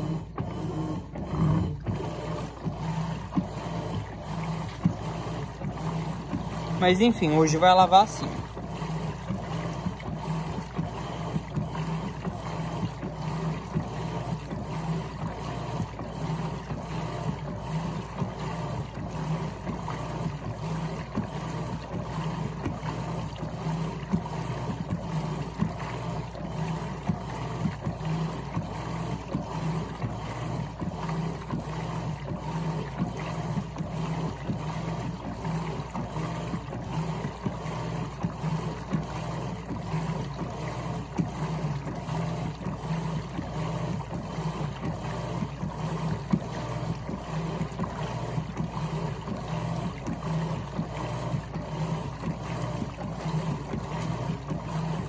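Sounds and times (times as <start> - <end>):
washing machine churning water: 0.0 - 55.0
washing machine drive hum: 0.0 - 55.0.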